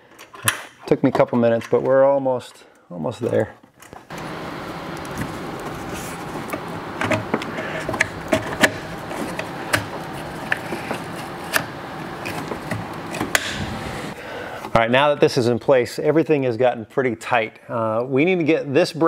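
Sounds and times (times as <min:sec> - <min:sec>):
background hiss: 0:02.3 - 0:19.0.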